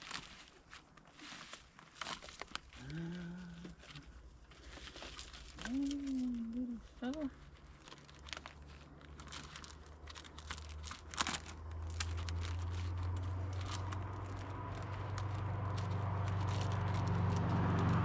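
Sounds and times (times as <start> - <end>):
crackling and snapping brush: 0.0 - 18.0
low motor hum: 2.8 - 18.0.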